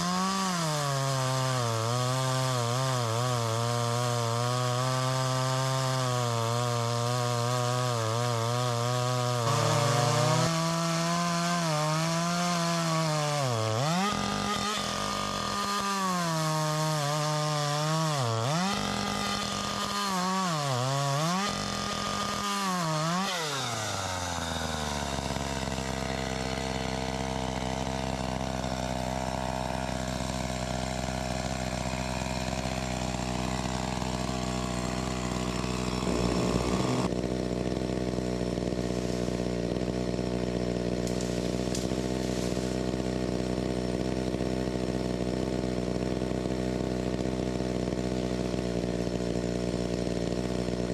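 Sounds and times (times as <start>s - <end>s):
chainsaw cutting wood: 0.0s - 50.9s
chainsaw idling: 0.0s - 50.9s.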